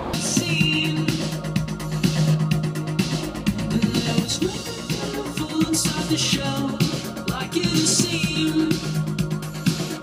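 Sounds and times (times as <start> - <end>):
bass line: 0.0 - 10.0
drum kit beat: 0.0 - 10.0
indie pop band music: 0.0 - 10.0.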